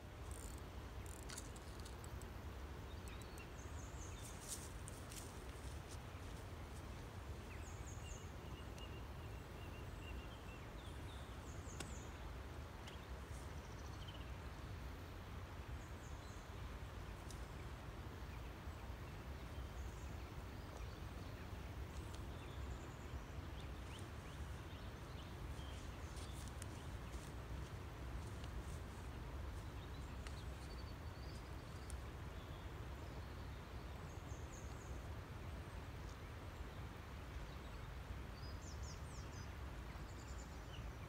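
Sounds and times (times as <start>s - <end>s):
wind: 0.0s - 41.0s.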